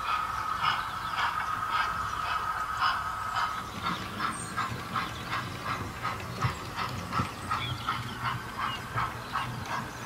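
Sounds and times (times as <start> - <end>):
model steam locomotive chuffing: 0.0 - 10.0.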